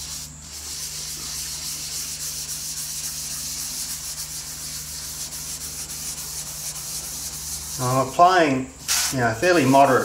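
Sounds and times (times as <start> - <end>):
gritty scrubbing on wood: 0.0 - 8.3.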